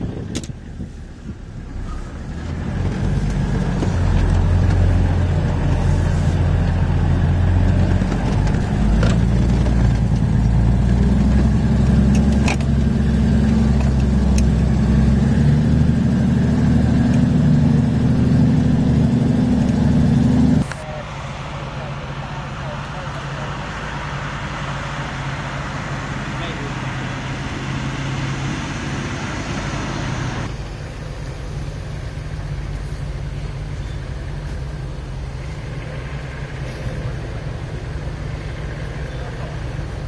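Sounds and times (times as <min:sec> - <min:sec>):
engine running at low revs: 0:00.0 - 0:40.0.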